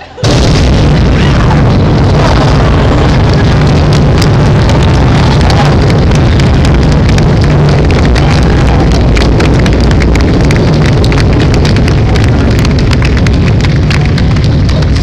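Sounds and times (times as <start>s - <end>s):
deep rumble: 0.2s - 15.0s
fireworks crackling: 0.2s - 15.0s
fireworks exploding: 0.2s - 15.0s.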